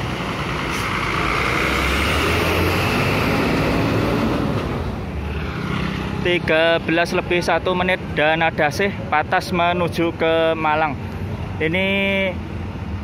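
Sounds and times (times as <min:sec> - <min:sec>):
coach diesel engine passing: 0:00.0 - 0:10.5.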